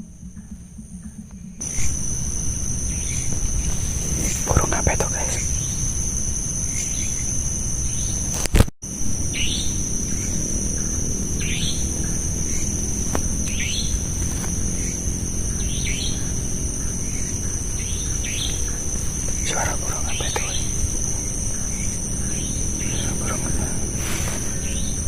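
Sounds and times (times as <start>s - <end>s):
high insect drone: 0.0s - 25.0s
night bird calling: 0.0s - 25.0s.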